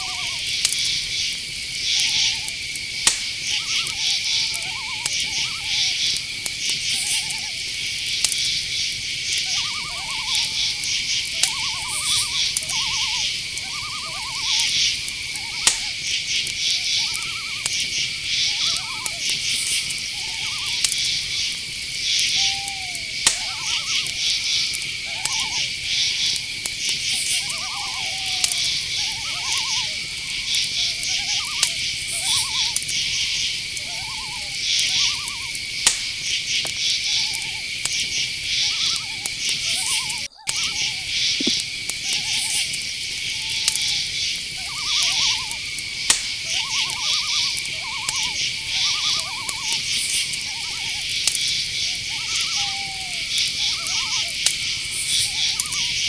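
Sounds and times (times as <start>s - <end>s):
crickets and insects chirping: 0.0s - 56.0s
high insect trill: 0.0s - 56.0s
wavering owl calls: 0.0s - 56.0s.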